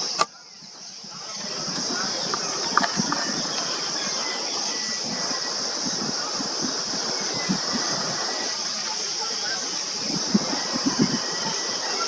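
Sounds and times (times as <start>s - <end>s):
high-pitched insect chorus: 0.0s - 12.0s
rushing outdoor background noise: 0.0s - 12.0s.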